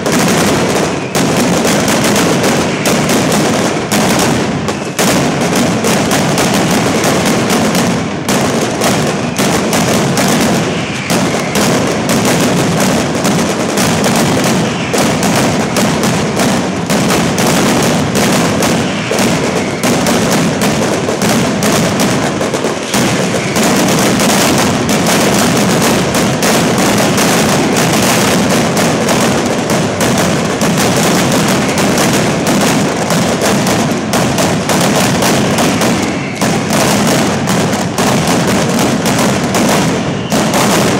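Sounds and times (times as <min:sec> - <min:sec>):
firecrackers barrage: 0:00.0 - 0:40.9.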